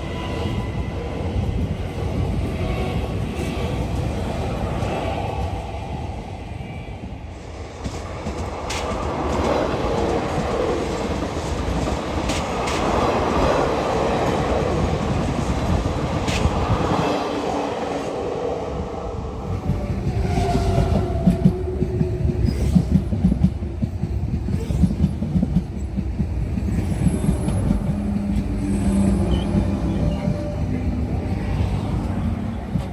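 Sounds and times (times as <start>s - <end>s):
train passing rush: 0.0s - 32.9s.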